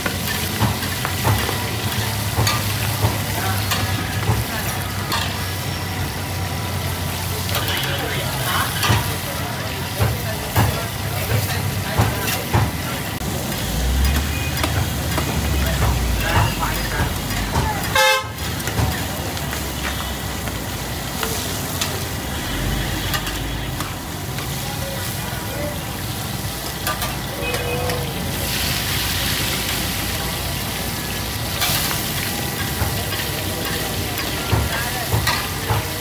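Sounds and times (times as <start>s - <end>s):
fish sizzling in hot oil: 0.0s - 36.0s.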